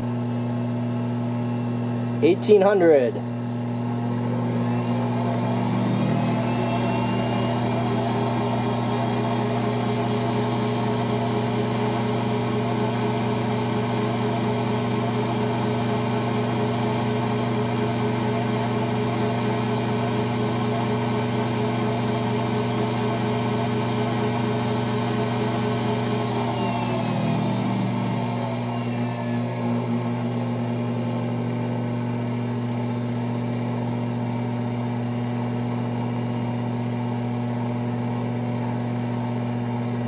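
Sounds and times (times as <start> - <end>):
motor hum and high whine: 0.0 - 40.0.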